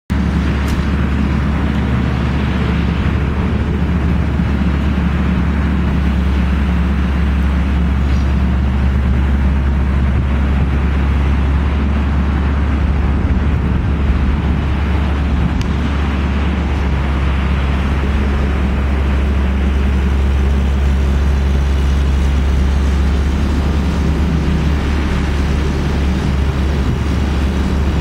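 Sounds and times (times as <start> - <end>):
diesel engine droning: 0.1 - 28.0.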